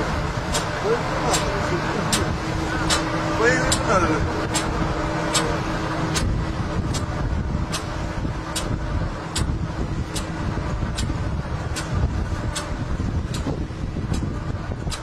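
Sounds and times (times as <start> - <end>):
helicopter engines and rotors: 0.0 - 15.0
steady whine: 0.0 - 15.0.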